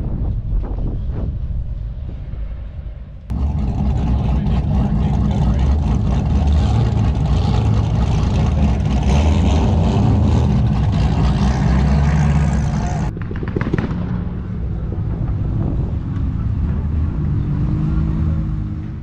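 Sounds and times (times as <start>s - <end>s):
car engine rumbling: 0.4s - 19.0s.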